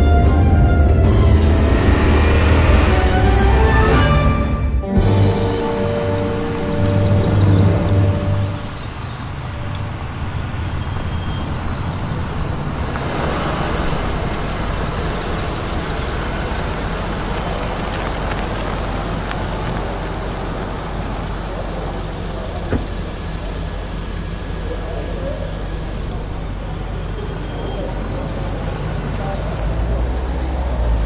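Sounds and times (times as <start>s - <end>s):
cars rolling over cobblestones: 0.0s - 31.0s.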